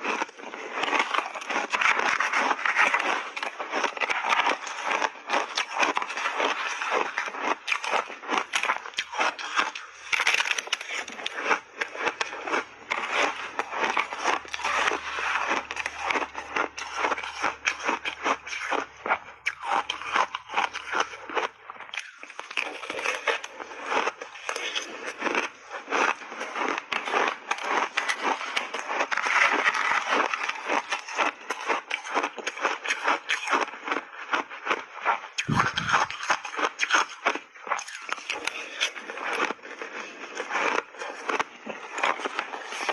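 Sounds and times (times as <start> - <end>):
crunching and crackling: 0.0 - 42.9
shaved ice being chewed: 0.0 - 42.9.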